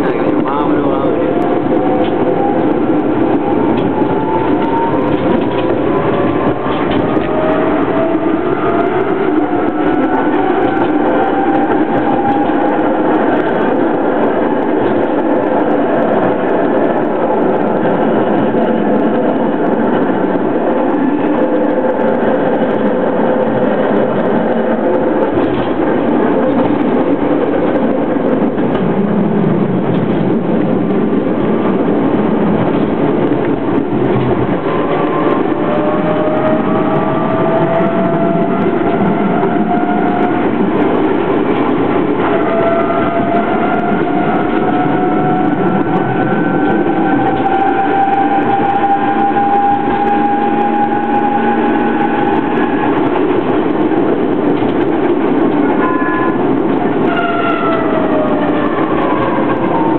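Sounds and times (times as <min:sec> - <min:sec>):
tram wheels rumbling: 0:00.0 - 0:59.9.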